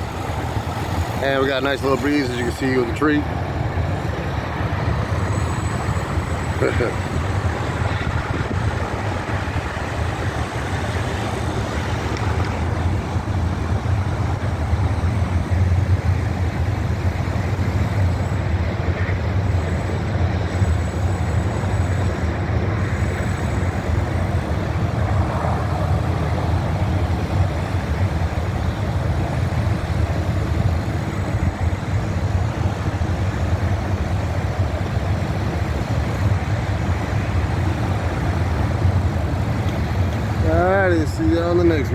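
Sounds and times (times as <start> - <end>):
wind noise on microphone: 0.0 - 40.7.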